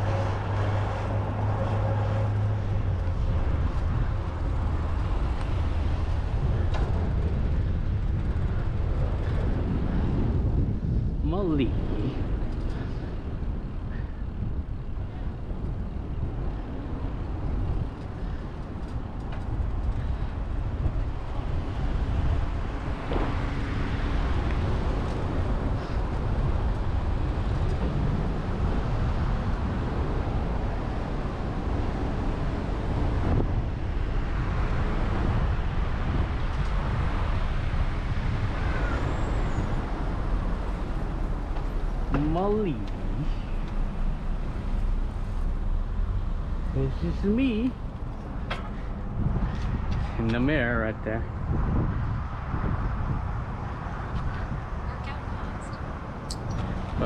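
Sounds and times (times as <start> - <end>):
passing cars: 0.0 - 57.0
wind rumble on microphone: 0.0 - 57.0.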